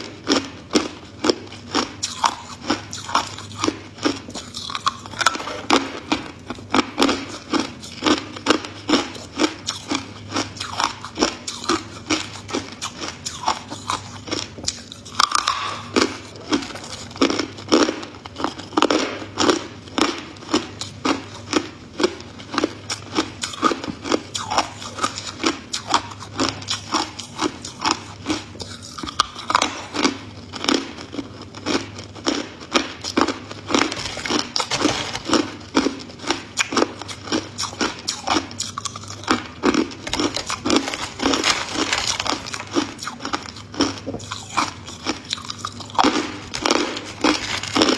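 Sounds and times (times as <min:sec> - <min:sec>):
ice crunching while chewed: 0:00.0 - 0:47.9.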